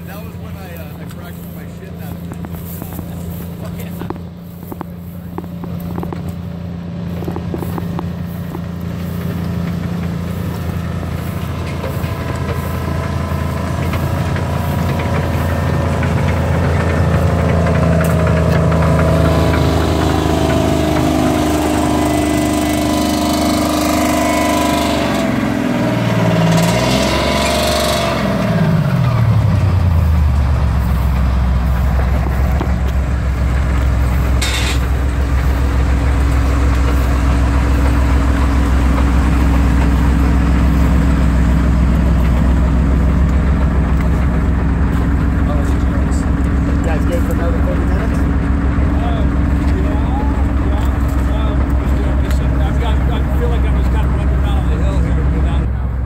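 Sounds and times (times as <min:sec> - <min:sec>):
tank tracks clanking: 0:00.0 - 0:55.7
tank engine: 0:00.0 - 0:56.0.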